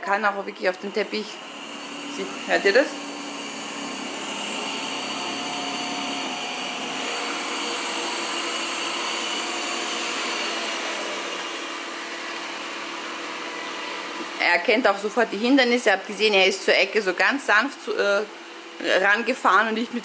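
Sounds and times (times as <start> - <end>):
robot vacuum motor whirring: 0.0 - 17.0.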